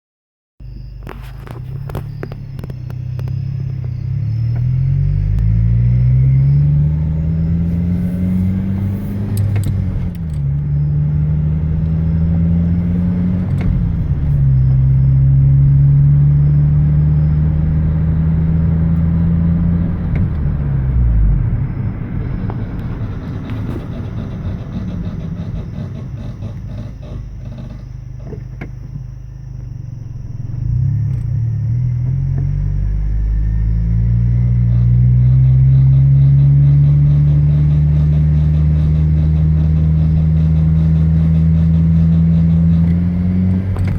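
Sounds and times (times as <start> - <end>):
car engine accelerating: 0.6 - 43.9
road rumble: 0.6 - 43.9.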